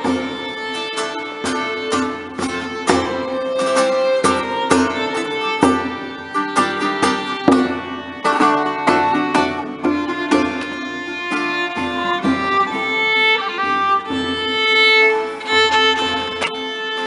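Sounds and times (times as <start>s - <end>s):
plucked string notes: 0.0s - 17.0s.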